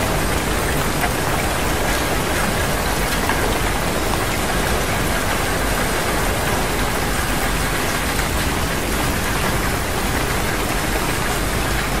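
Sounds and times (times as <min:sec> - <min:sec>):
loud rain-like hiss: 0:00.0 - 0:12.0.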